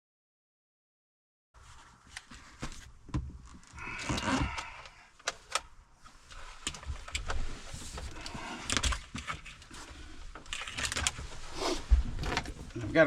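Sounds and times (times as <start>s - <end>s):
rustling and scraping: 1.6s - 13.0s.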